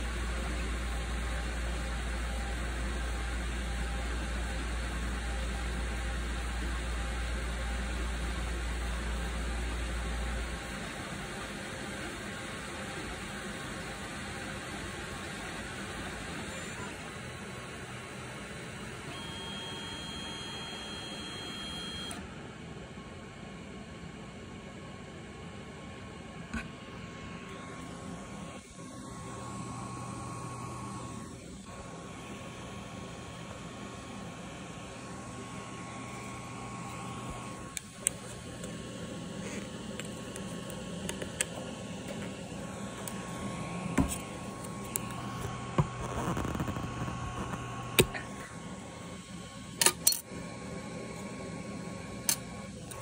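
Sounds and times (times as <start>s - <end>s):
machine hum with high tone: 0.0s - 53.0s
printer fans whirring: 0.0s - 53.0s.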